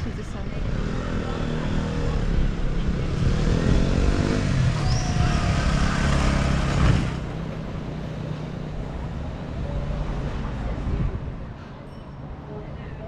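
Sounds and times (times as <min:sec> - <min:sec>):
vehicle engine passing: 0:00.0 - 0:11.3
street background noise: 0:00.0 - 0:13.0.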